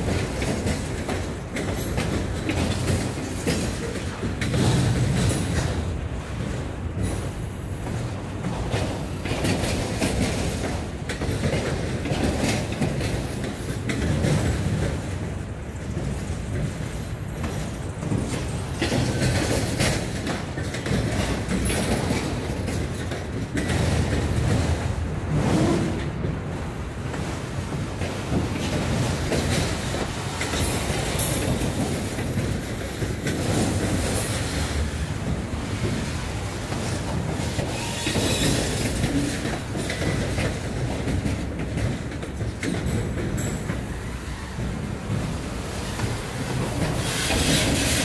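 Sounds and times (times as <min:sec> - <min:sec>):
rumble of railcars: 0:00.0 - 0:48.0
wheels clacking over rail joints: 0:00.0 - 0:48.0.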